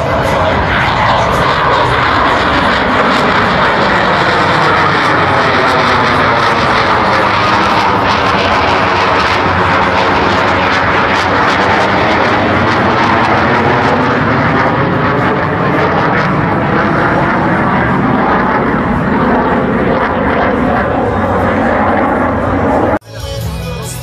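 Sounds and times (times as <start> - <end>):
jet roar overhead: 0.0 - 23.0.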